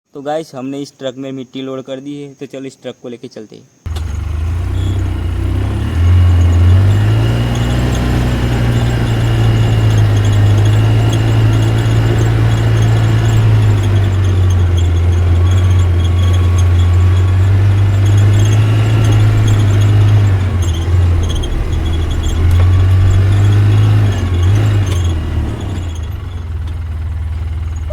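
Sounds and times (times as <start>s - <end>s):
toy truck motor humming: 3.9s - 27.9s.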